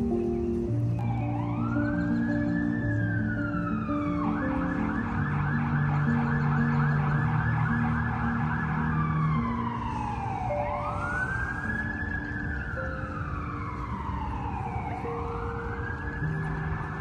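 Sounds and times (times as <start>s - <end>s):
emergency vehicle siren: 0.0s - 17.0s.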